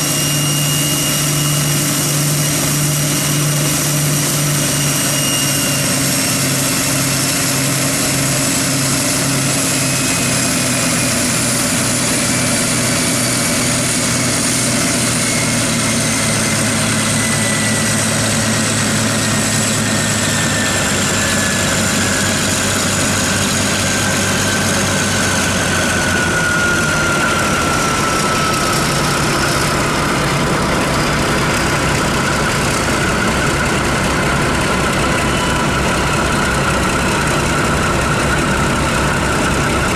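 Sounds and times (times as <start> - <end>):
deep diesel engine note: 0.0 - 39.9
high whine falling in pitch: 0.0 - 39.9.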